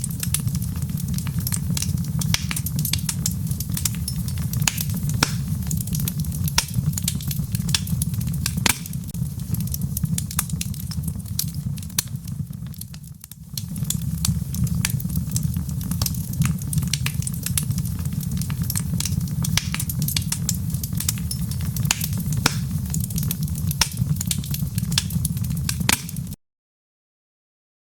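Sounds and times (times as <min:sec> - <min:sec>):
fire crackling in fireplace: 0:00.0 - 0:26.4.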